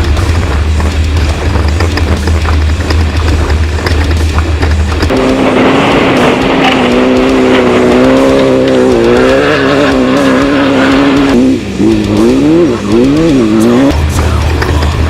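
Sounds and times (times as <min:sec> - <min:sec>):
buggy engine revving: 0:00.0 - 0:15.0
deep steady hum: 0:00.0 - 0:15.0.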